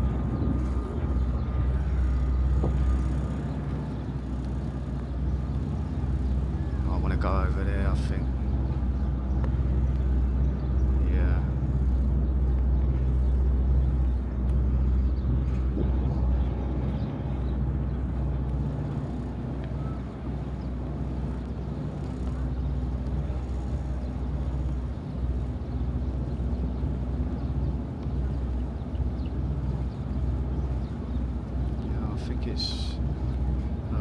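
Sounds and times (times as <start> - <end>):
motorboat engine droning: 0.0 - 34.0.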